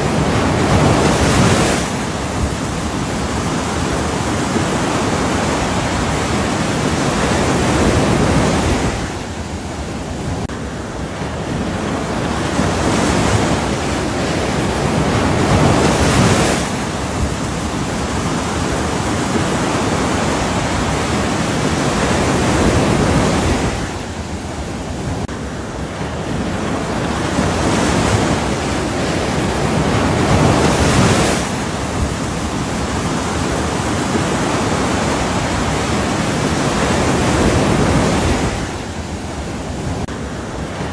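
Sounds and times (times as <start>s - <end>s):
ocean waves rushing: 0.0s - 40.9s.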